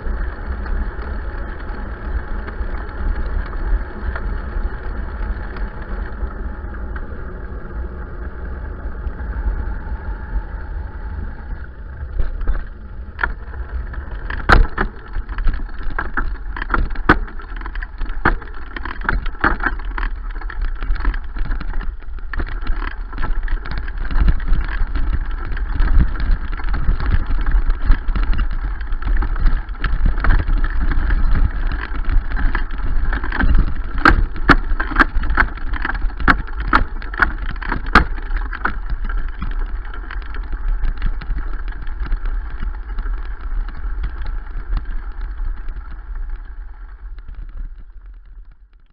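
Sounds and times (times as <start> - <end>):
bike knocks and rattles: 0.0 - 9.5, 10.6 - 48.9
wind buffeting: 0.0 - 48.1
low rumble: 0.0 - 48.9.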